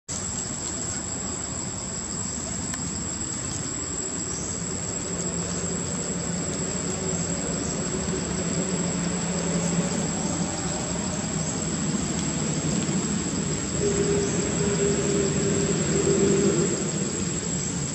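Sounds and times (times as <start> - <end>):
high-pitched whine: 0.2 - 17.9.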